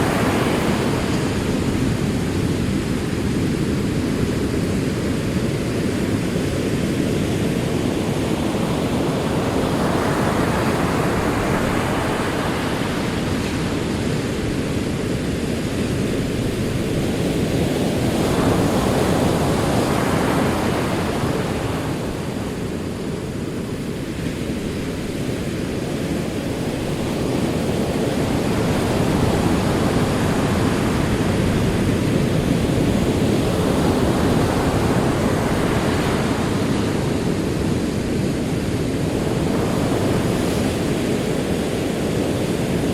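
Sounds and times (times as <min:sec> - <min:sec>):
ocean waves on shore: 0:00.0 - 0:42.9.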